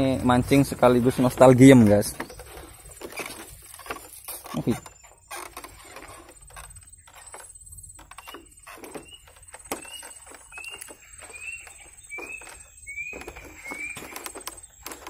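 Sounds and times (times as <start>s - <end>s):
footsteps on bamboo footbridge: 0.0s - 15.0s.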